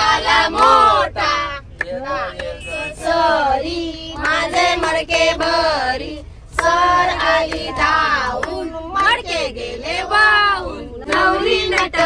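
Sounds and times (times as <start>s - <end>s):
group of high voices singing: 0.0s - 12.0s.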